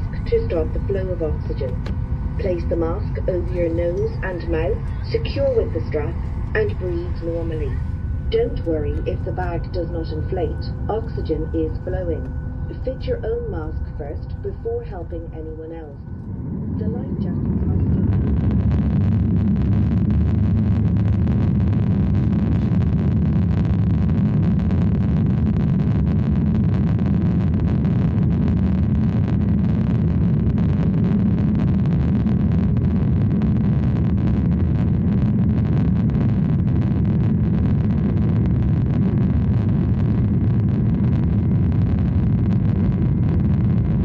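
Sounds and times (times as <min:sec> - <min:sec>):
airplane cabin low rumble: 0:00.0 - 0:44.0.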